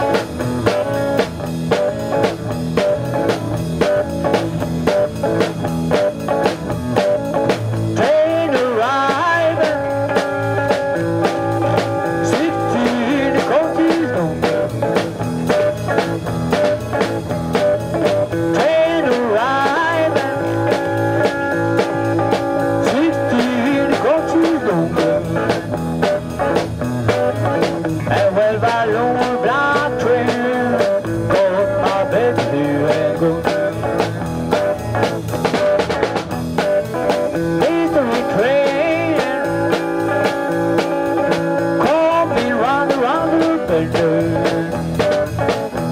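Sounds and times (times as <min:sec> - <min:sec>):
bass guitar: 0:00.0 - 0:45.9
drum kit: 0:00.0 - 0:45.9
electric guitar: 0:00.0 - 0:45.9.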